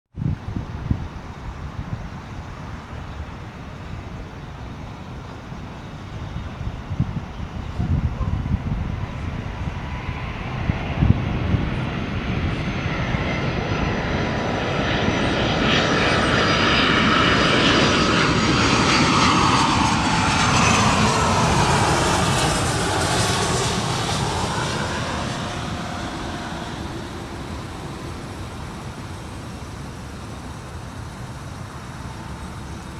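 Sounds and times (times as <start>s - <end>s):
jet airliner engine roar: 0.2s - 32.9s.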